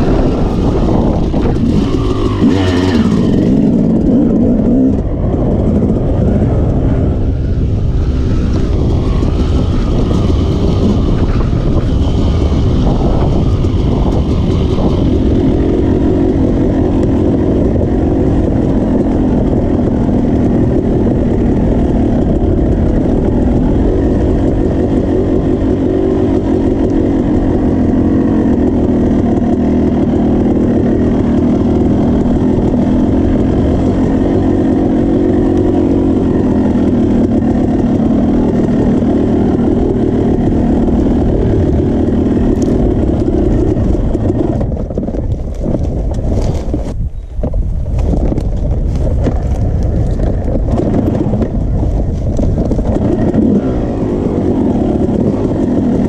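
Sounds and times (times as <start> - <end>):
dirt bike engine revving: 0.0 - 46.8, 49.2 - 56.0.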